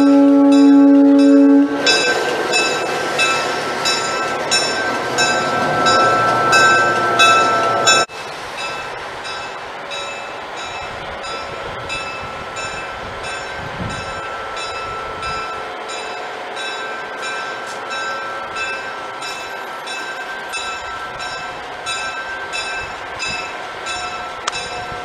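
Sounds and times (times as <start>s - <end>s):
bell ringing: 0.0s - 25.0s
train noise: 0.0s - 25.0s.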